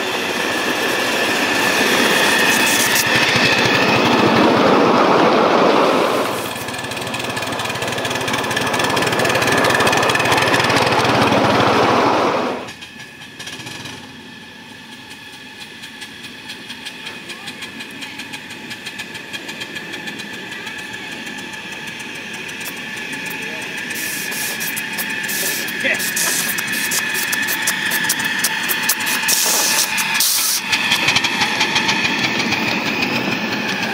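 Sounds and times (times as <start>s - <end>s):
steam locomotive exhaust chuffing: 0.0s - 33.9s
train rumbling over rails: 0.0s - 33.9s.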